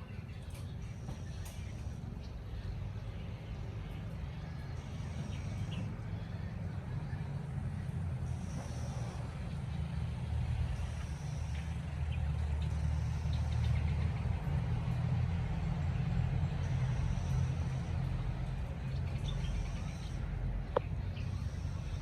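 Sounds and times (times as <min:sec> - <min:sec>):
low engine-like rumble: 0:00.0 - 0:22.0.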